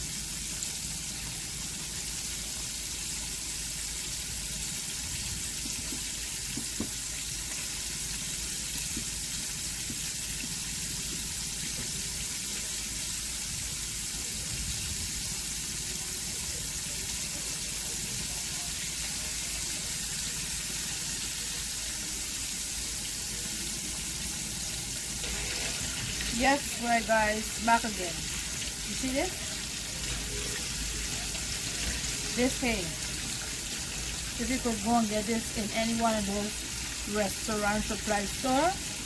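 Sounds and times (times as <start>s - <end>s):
chicken sizzling in hot oil: 0.0s - 39.0s.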